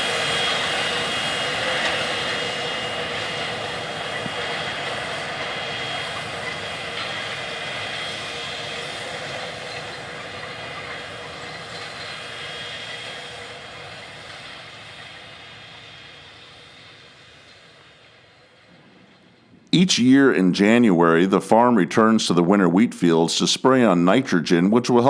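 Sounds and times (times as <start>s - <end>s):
diesel machine whining: 0.0s - 25.0s.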